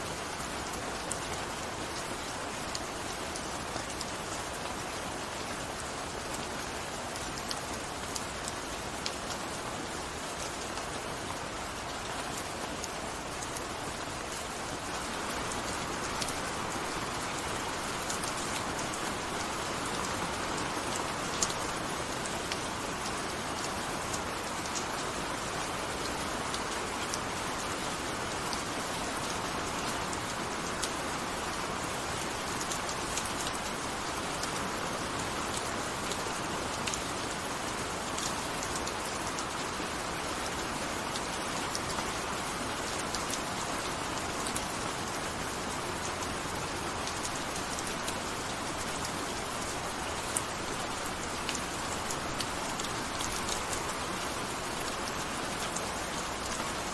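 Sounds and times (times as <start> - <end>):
raindrops ticking on a surface: 0.0 - 56.9.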